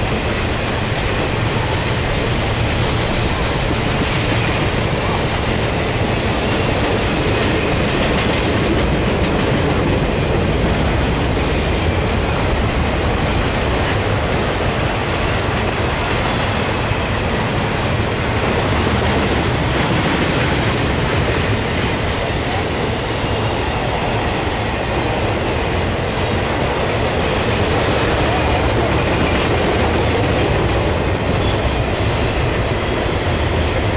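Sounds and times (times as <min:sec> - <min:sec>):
train wheels rushing on rails: 0:00.0 - 0:33.9.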